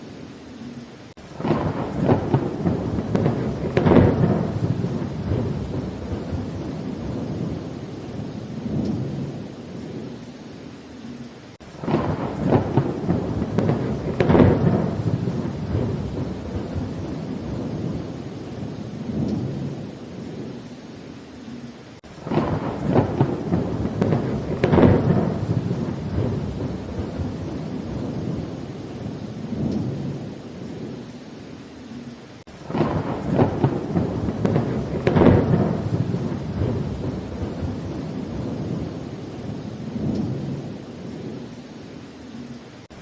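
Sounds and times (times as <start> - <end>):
rain falling: 0.0 - 43.0
rolling thunder: 1.3 - 10.2, 11.7 - 20.6, 22.0 - 31.1, 32.5 - 41.6.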